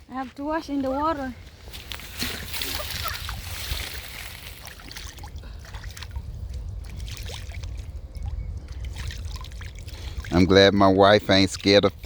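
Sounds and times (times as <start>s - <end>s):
water trickling and splashing: 0.1s - 12.0s.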